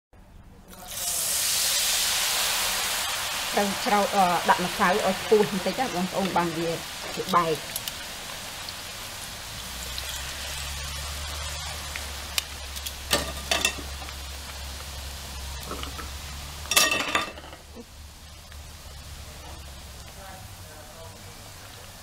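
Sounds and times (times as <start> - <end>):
fish deep-frying in oil: 0.7 - 22.0.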